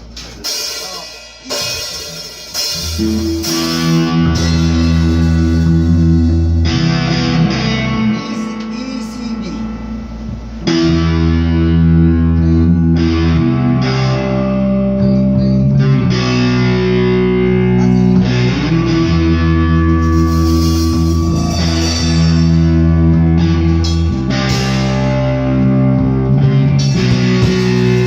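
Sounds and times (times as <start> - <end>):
guitar band music: 0.0 - 28.0.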